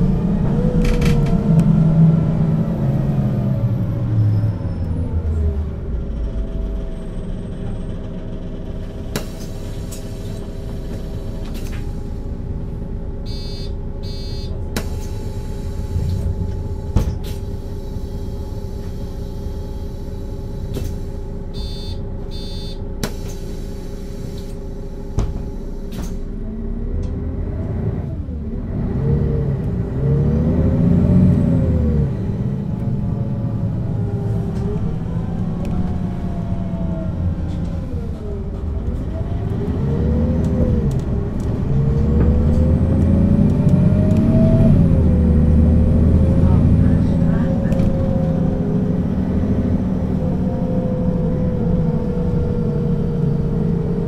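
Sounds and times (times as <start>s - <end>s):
bus engine idling and accelerating: 0.0s - 54.0s.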